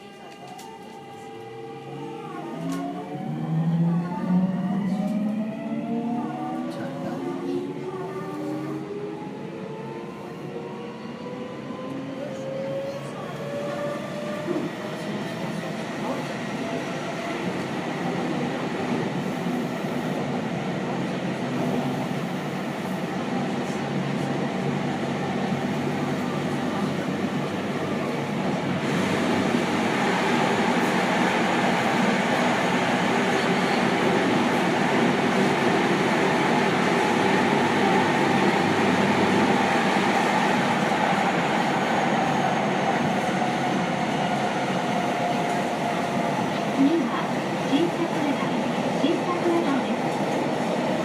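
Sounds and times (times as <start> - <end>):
train wheel and motor noise: 0.0 - 51.0.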